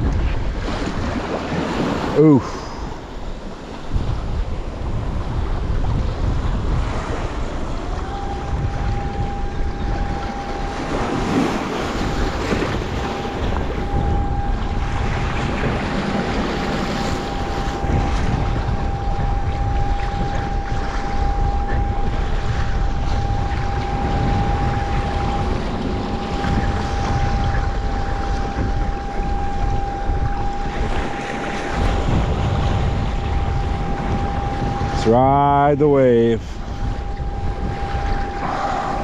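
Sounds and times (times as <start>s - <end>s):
steady high whine: 0.0s - 39.0s
waves splashing against kayak: 0.0s - 39.0s
wind buffeting microphone: 0.0s - 39.0s.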